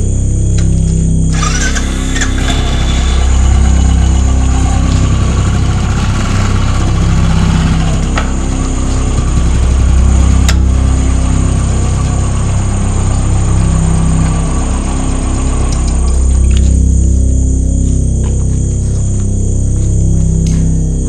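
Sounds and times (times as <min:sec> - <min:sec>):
motorcycle engine at low revs: 0:00.0 - 0:21.0.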